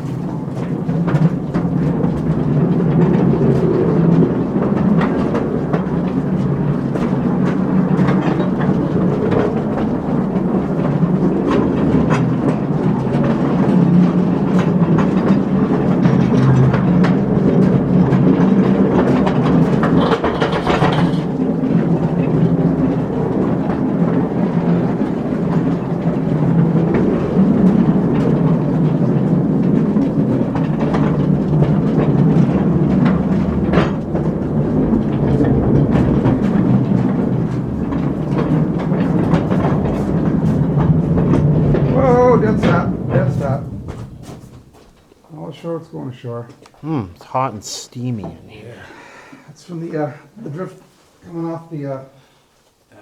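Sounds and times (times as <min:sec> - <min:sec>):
rail car wheels rumbling: 0:00.0 - 0:46.1
clattering over rail joints: 0:00.0 - 0:46.8.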